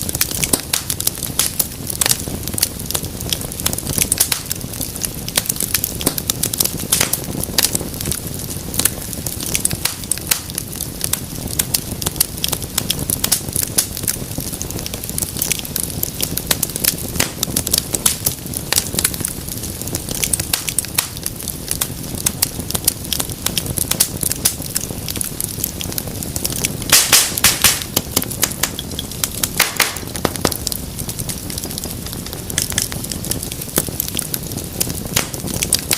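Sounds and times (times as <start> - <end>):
low rush of flames: 0.0 - 35.9
wood fire crackling and popping: 0.0 - 35.9.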